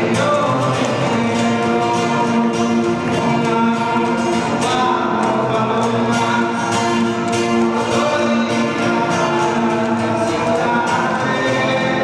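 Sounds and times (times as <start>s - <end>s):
choir singing with music: 0.0s - 12.0s.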